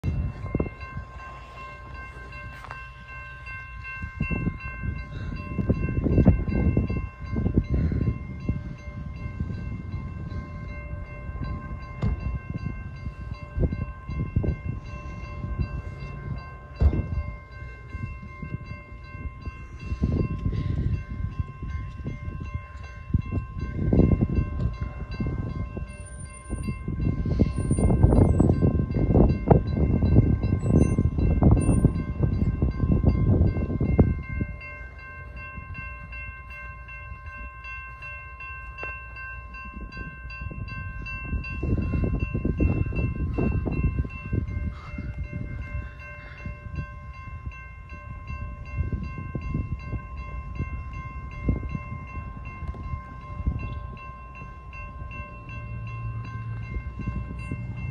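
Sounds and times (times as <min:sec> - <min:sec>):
steady ringing tone: 0:00.0 - 0:57.9
wind buffeting microphone: 0:00.0 - 0:57.9.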